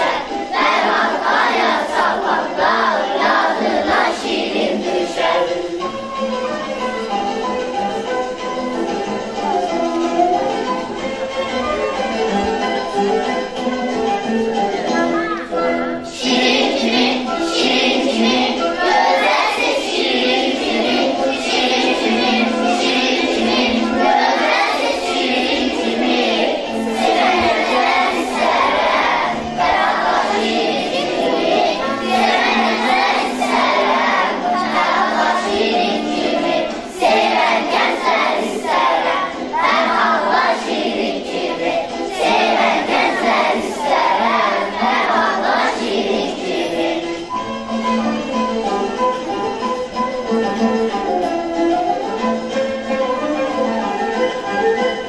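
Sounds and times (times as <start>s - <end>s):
children's choir singing: 0.0s - 55.0s
instrumental accompaniment: 0.0s - 55.0s.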